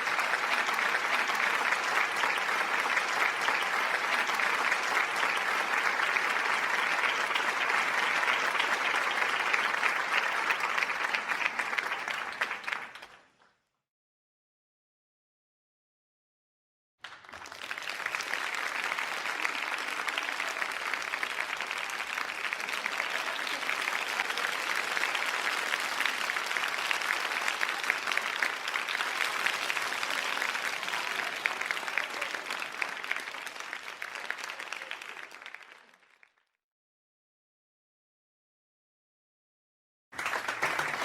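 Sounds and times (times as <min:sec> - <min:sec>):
crowd applauding: 0:00.0 - 0:13.6, 0:17.0 - 0:36.5, 0:40.2 - 0:41.0.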